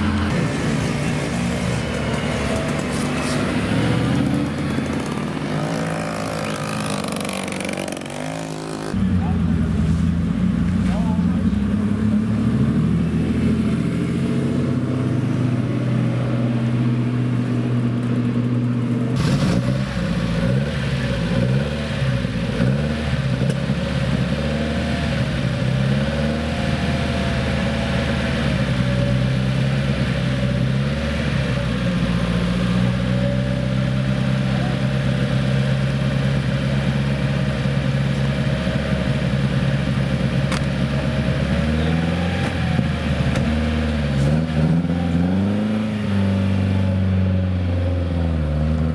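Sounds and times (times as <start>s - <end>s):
racing car engine revving: 0.0s - 48.9s.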